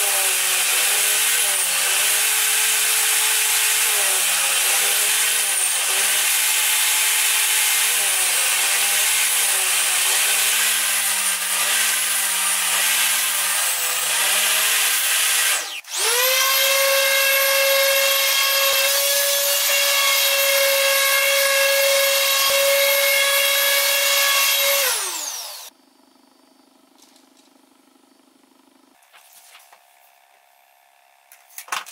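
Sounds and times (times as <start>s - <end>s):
table saw cutting wood: 0.0s - 25.7s.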